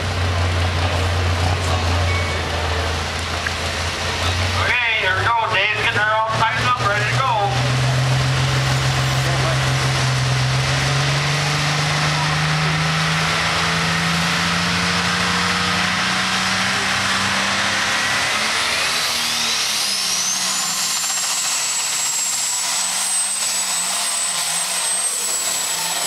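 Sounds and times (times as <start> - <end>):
tractor diesel engine running hard: 0.0 - 26.0
turbocharger whine: 0.0 - 26.0.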